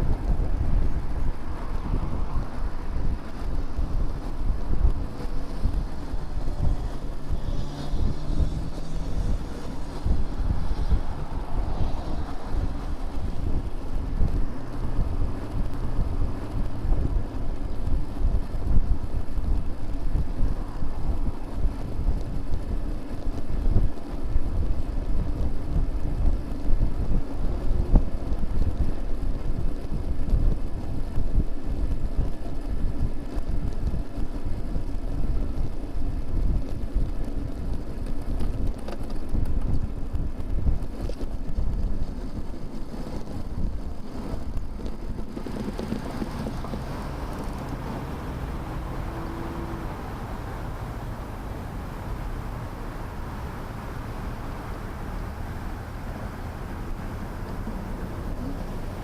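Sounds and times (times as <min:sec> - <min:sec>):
traffic rumble: 0:00.0 - 0:59.0
vehicle engine hum: 0:00.0 - 0:59.0
wind buffeting microphone: 0:00.0 - 0:59.0.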